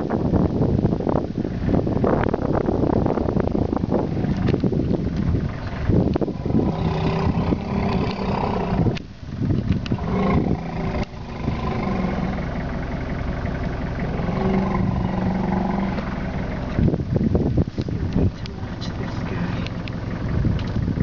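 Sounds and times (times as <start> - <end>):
vehicle engine idling: 0.2 - 21.0.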